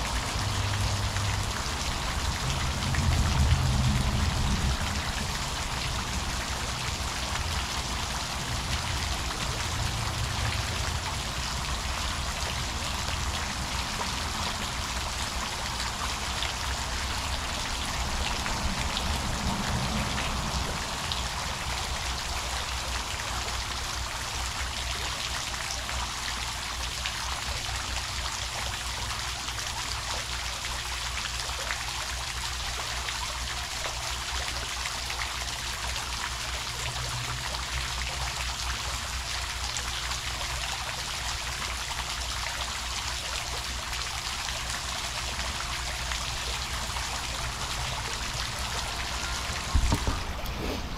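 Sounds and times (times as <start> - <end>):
fountain water splashing: 0.0 - 50.9.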